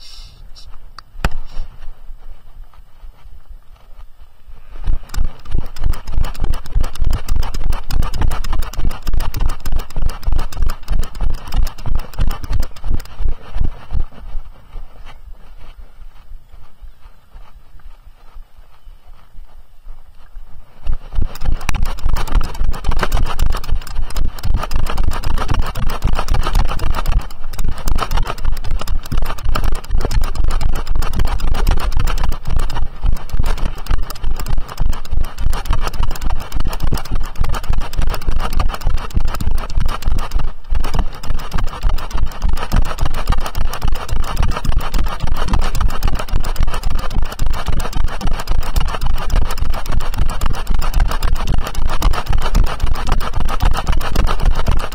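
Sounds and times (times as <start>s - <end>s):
horse hoofbeats on path: 0.7s - 54.9s
wind buffeting camera: 0.7s - 54.9s.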